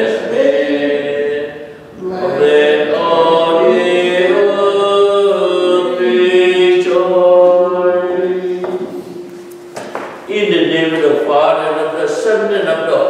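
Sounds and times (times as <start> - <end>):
voices singing a hymn: 0.0 - 13.0.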